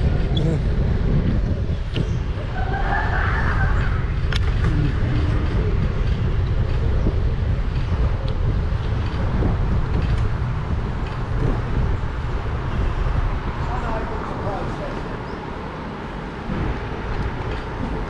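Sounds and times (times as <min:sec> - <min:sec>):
tyres rolling on road: 0:00.0 - 0:18.0
wind on microphone: 0:00.0 - 0:18.0.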